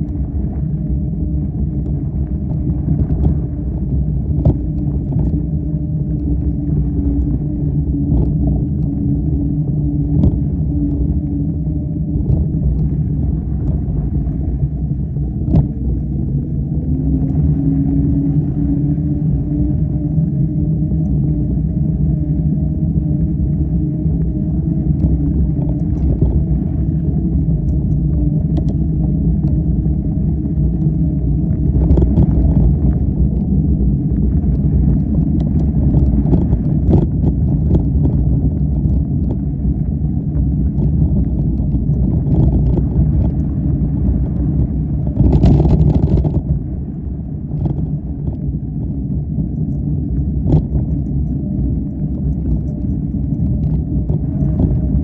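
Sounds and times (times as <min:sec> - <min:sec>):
rush of noise: 0:00.0 - 0:55.0.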